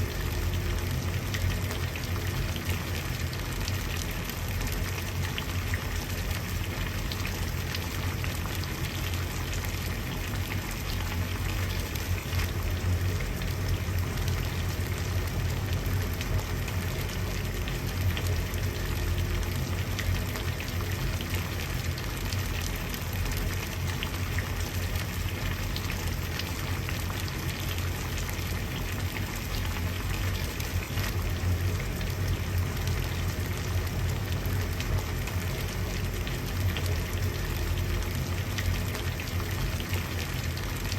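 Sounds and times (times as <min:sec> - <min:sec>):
water boiling and bubbling: 0:00.0 - 0:40.9.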